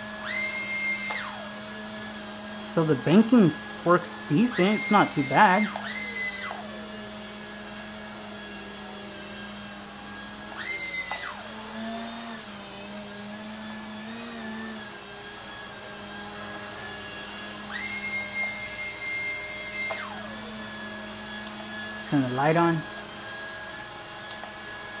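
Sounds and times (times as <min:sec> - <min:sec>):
helicopter rotor motors whining: 0:00.0 - 0:25.0.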